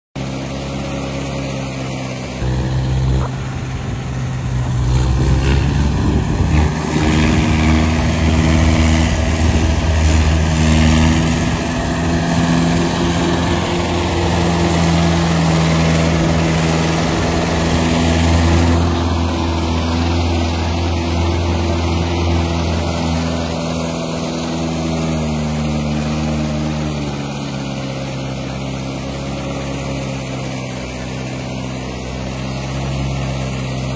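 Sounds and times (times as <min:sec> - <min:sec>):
tractor diesel engine under load: 0:00.2 - 0:33.9.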